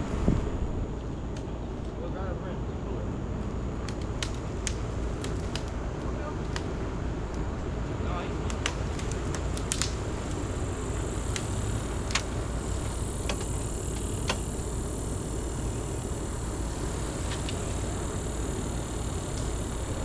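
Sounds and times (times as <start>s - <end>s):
motor rumbling: 0.0s - 20.0s.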